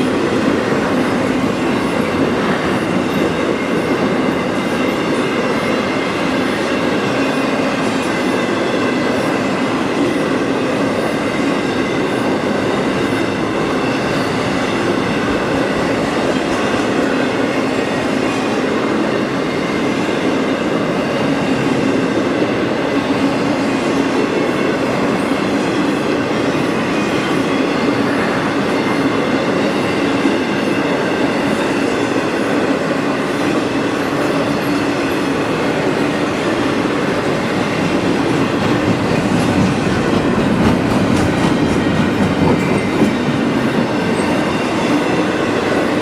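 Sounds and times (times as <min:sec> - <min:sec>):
freight train cars rumbling: 0:00.0 - 0:46.0.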